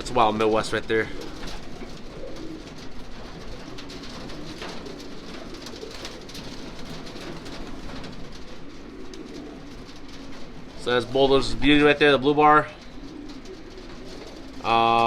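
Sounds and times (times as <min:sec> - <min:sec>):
pigeons cooing: 0:00.0 - 0:15.0
small clicks and rustles: 0:00.0 - 0:15.0.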